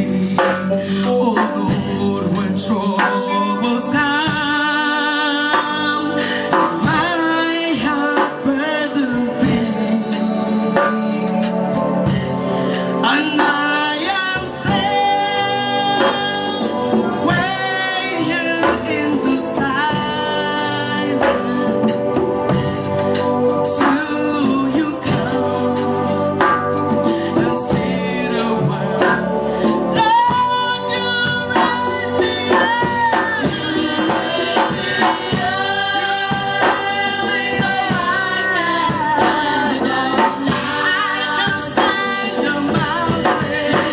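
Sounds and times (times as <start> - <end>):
band with drums and guitar: 0.0 - 43.9
gospel choir singing: 0.0 - 43.9
instrumental accompaniment: 0.0 - 43.9.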